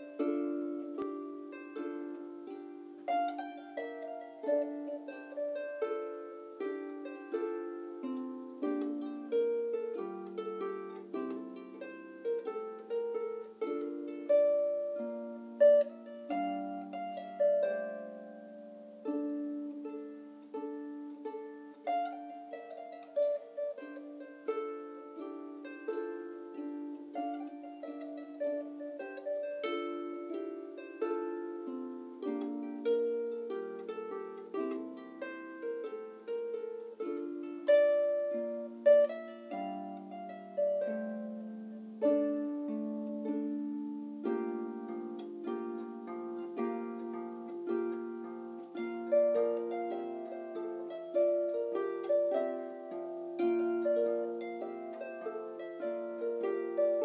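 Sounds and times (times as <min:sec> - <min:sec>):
harp plucked solo: 0:00.0 - 0:57.0.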